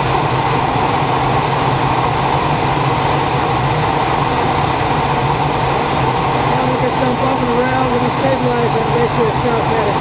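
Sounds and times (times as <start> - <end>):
plane engine drone: 0.0 - 10.0.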